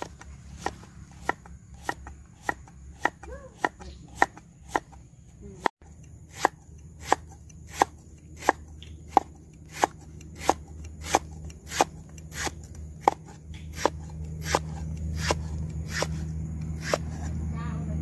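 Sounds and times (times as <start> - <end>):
knife chopping on wooden board: 0.0 - 16.2, 16.8 - 17.3.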